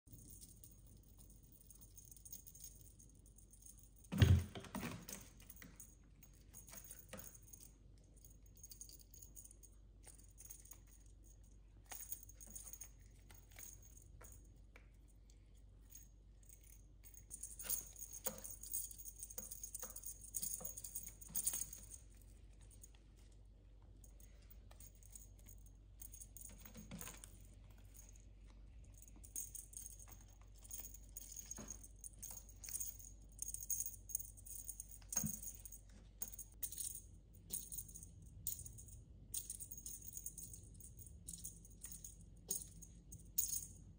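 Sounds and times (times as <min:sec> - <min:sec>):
toy jingling and rattling: 0:00.0 - 0:14.6, 0:15.8 - 0:23.0, 0:28.8 - 0:43.9.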